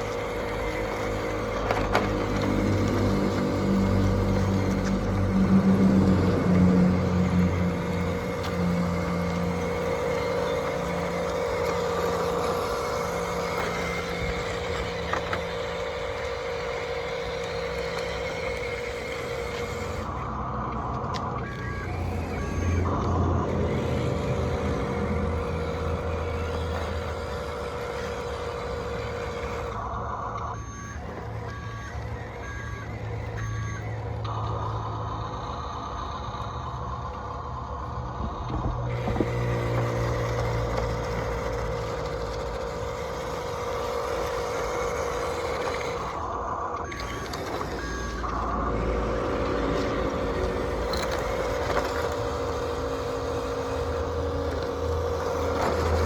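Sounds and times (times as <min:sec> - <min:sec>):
model trucks mechanical hum: 0:00.0 - 0:56.0
truck reversing beeps: 0:00.0 - 0:56.0.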